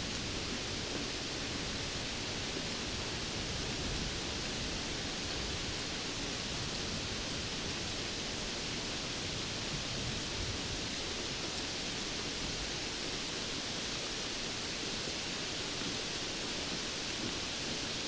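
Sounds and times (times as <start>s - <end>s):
heavy rainfall: 0.0s - 18.0s.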